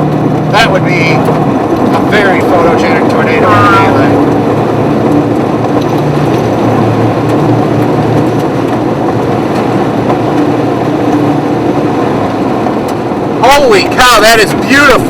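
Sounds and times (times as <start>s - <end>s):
car engine low hum: 0.0s - 15.0s
tyres on the road: 0.0s - 15.0s.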